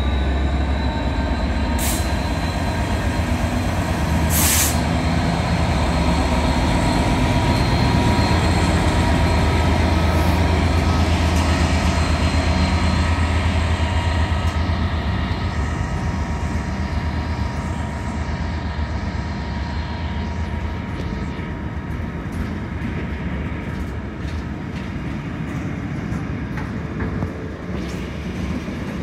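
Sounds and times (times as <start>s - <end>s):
diesel locomotive droning: 0.0s - 29.0s.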